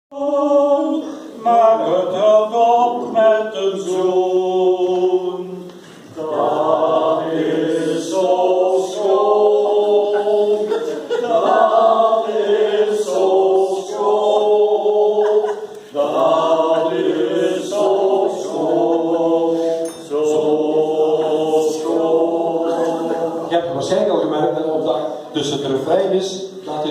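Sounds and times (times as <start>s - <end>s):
group singing unaccompanied: 0.1s - 25.6s.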